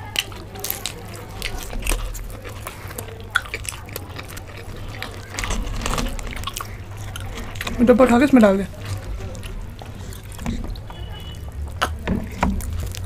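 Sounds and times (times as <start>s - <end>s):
crunching fried pastry: 0.0s - 13.0s.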